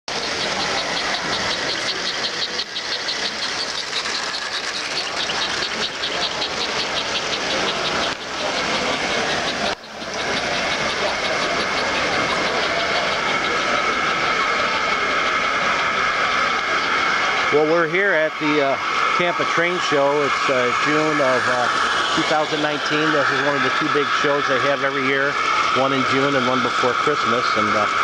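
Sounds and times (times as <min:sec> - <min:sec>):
model train running clicking: 0:00.1 - 0:28.0
steady high whine: 0:00.1 - 0:28.0.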